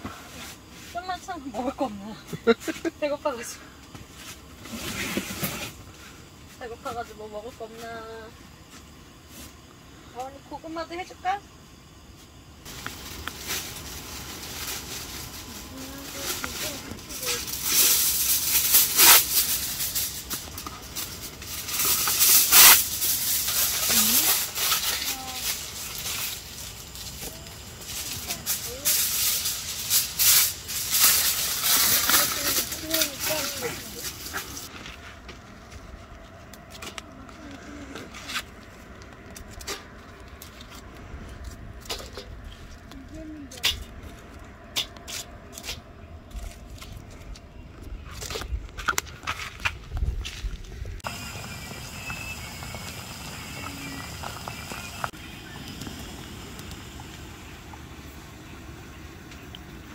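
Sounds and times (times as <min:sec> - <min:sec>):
hissing rustling noise: 0:00.0 - 0:59.9.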